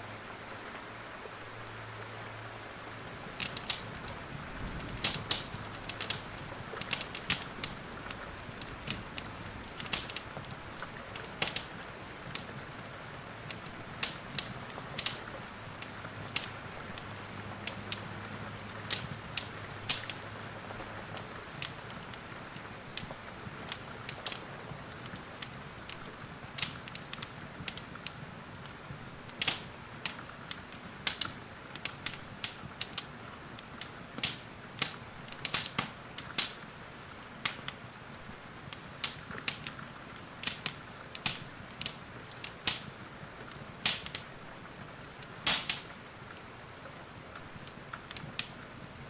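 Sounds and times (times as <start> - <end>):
rain hissing: 0.0 - 49.0
wood fire crackling: 1.3 - 49.0.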